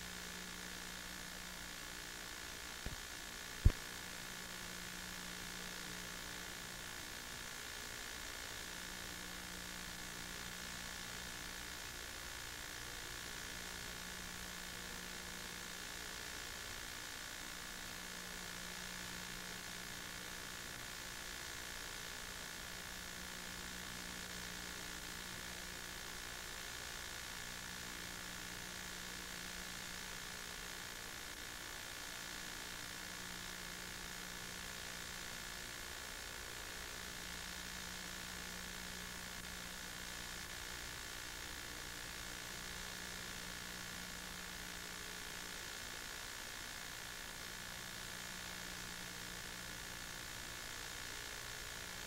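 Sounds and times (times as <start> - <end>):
faint electrical hum: 0.0 - 52.0.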